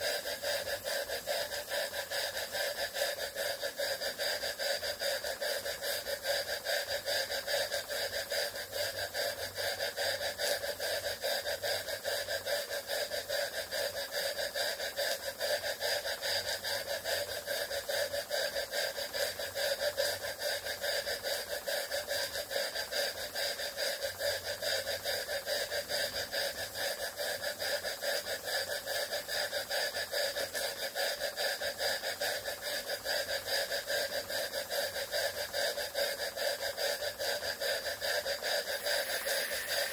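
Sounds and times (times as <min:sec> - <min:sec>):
model steam engine beating: 0:00.0 - 0:39.9.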